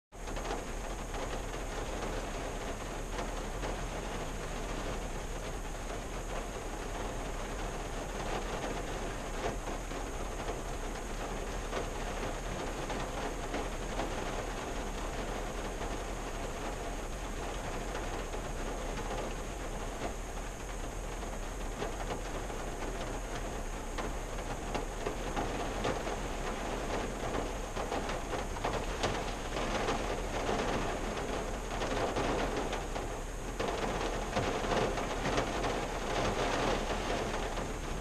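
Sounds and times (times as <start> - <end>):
rain on car from inside: 0.1 - 38.0.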